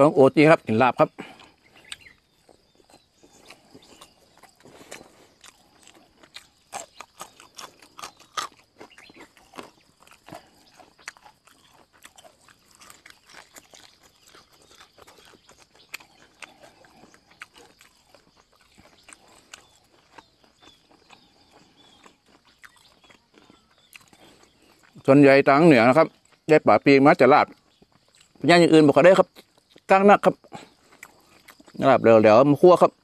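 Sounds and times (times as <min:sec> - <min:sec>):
man chewing and lip smacking: 0:01.2 - 0:25.1, 0:26.0 - 0:26.5, 0:27.5 - 0:28.4, 0:29.2 - 0:31.8.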